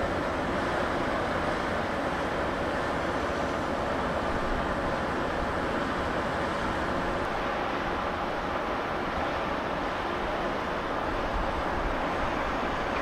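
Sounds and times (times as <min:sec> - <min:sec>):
train station rumble and hiss: 0:00.0 - 0:13.0.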